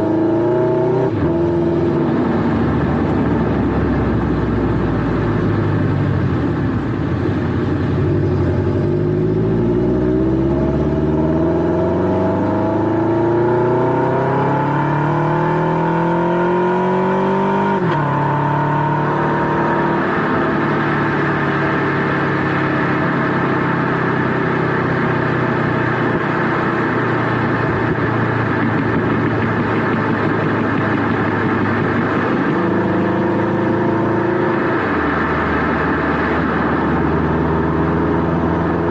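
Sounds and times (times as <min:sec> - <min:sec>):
car engine revving through exhaust: 0:00.0 - 0:06.4, 0:07.1 - 0:38.9.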